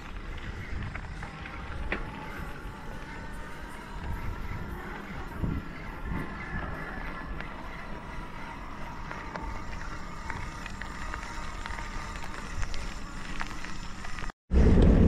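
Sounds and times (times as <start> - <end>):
small ticks and rattles: 0.0 - 14.4
tyres crunching over loose stones: 0.0 - 14.4
faint high whine: 0.0 - 14.8.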